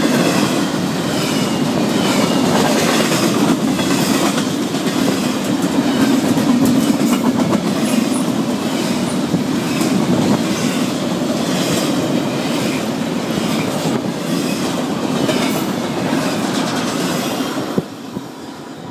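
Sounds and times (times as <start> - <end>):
train wheels clicking over rail joints: 0.0 - 18.3
freight train rumbling and rattling: 0.0 - 18.9.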